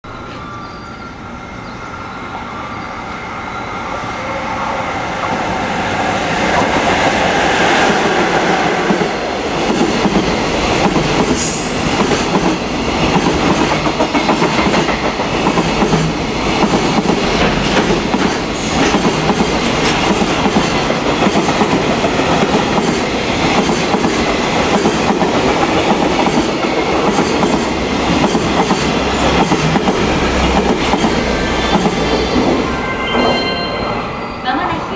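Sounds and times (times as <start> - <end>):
freight train passing: 0.0 - 34.9.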